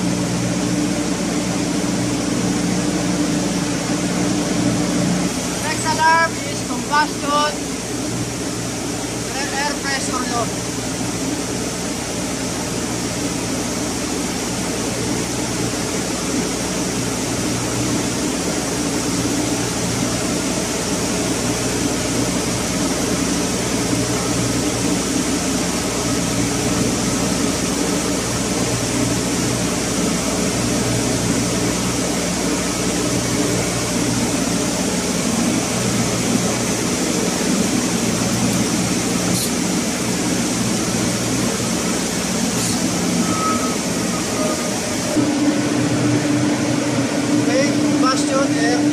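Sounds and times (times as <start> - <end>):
machinery drone with hiss: 0.0 - 48.9.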